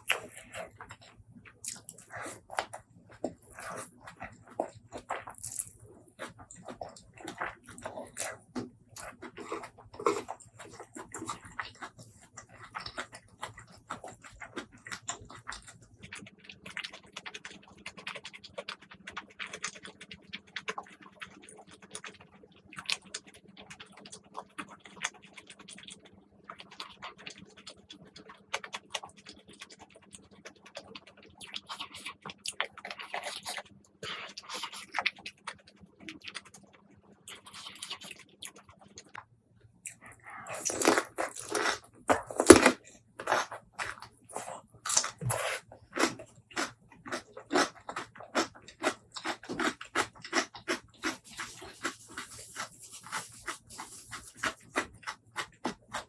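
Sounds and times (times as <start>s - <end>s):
person chewing and lip smacking: 0.0s - 56.0s.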